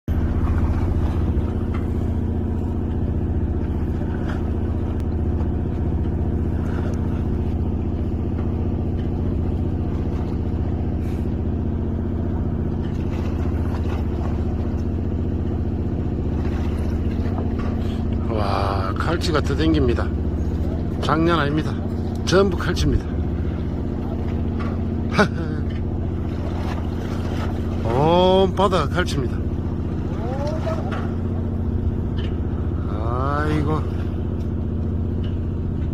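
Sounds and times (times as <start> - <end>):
boat engine humming: 0.0 - 35.9.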